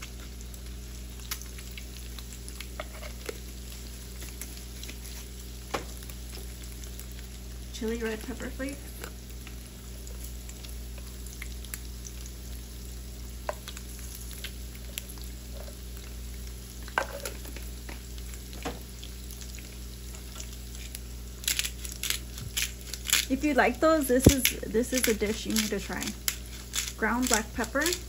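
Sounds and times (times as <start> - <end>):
sausages sizzling in oil: 0.0 - 28.0.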